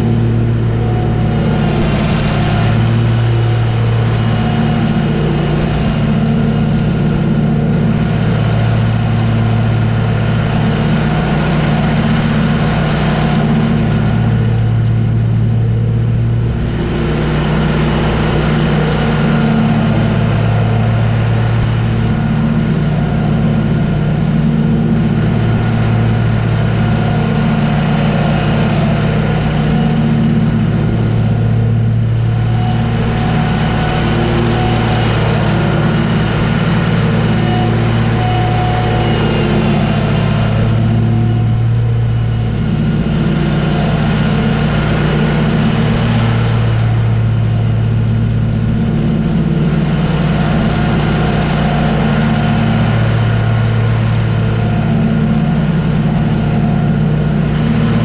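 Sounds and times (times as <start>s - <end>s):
lawn mower engine and blades running: 0.0s - 58.0s.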